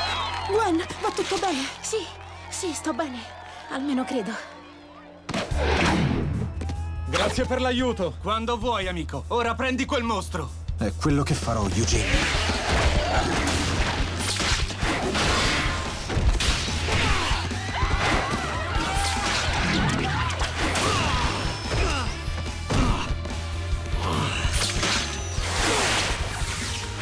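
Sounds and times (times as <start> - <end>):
background music: 0.0 - 27.0.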